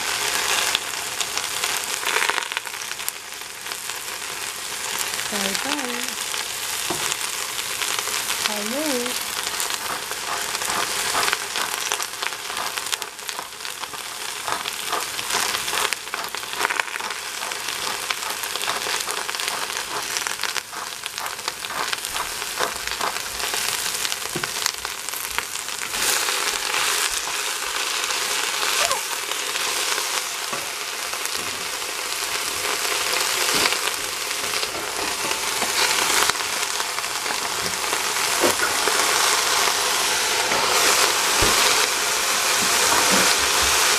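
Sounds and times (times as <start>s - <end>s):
cabbage sizzling in a pot: 0.0s - 43.9s.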